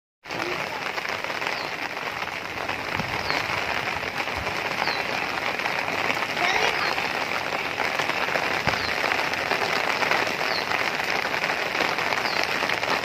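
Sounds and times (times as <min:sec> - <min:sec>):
steady rain falling: 0:00.2 - 0:13.0.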